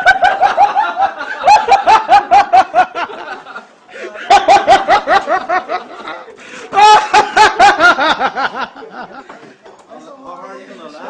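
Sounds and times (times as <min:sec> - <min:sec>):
loud rhythmic laughter: 0:00.0 - 0:09.5.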